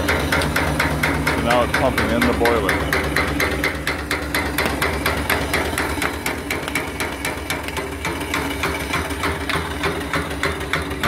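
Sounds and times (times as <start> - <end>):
feed pump knocking: 0.0 - 11.0
steam engine running: 0.0 - 11.0.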